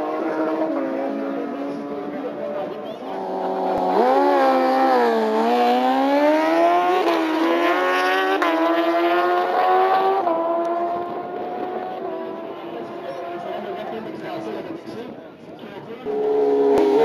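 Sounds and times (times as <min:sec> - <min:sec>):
motorcycles accelerating hard: 0:00.0 - 0:15.0, 0:16.0 - 0:17.0.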